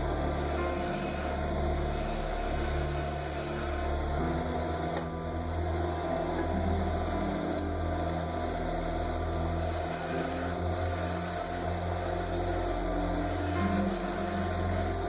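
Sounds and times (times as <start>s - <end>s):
turning tool cutting wood: 0.0s - 15.0s
wood lathe running: 0.0s - 15.0s.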